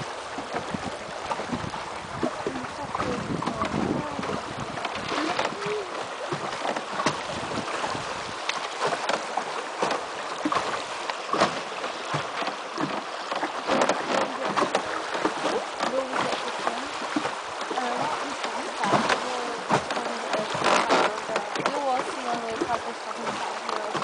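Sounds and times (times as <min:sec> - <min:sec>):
river water rushing: 0:00.0 - 0:24.0
water splashing against raft: 0:00.0 - 0:24.0.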